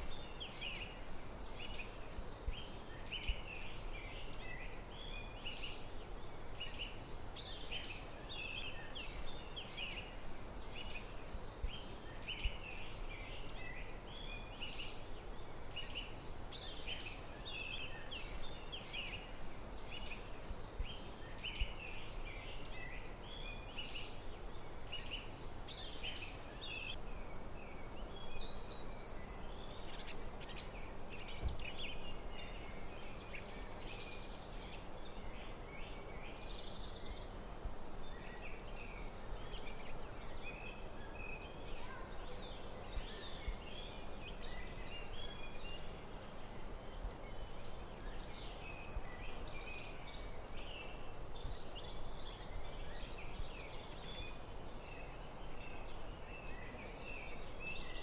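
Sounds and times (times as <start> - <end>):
low background hiss: 0.0 - 58.0.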